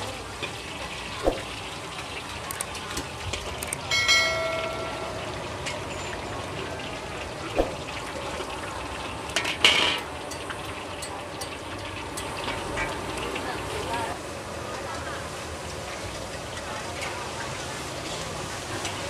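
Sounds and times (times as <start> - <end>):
hot oil sizzling in a wok: 0.0 - 19.0.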